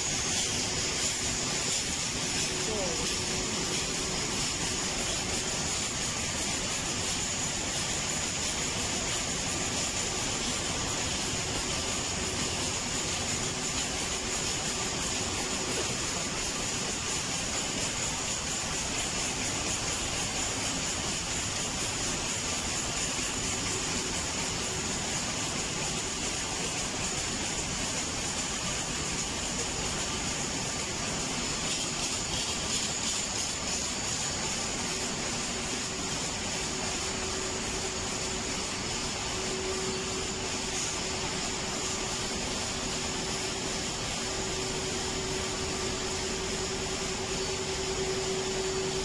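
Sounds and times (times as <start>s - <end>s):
high-pitched whine: 0.0s - 49.0s
printing press mechanical whirr: 0.0s - 49.0s.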